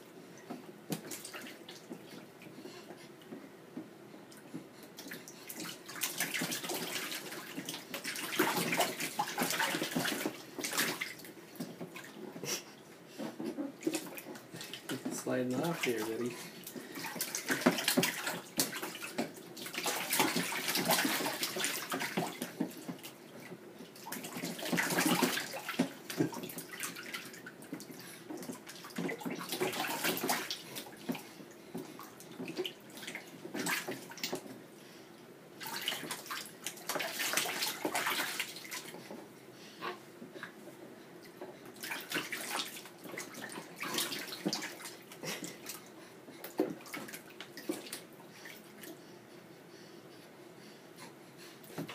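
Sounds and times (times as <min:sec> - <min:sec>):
water splashing in bathtub: 0:00.0 - 0:34.7, 0:35.5 - 0:40.6, 0:41.2 - 0:49.1.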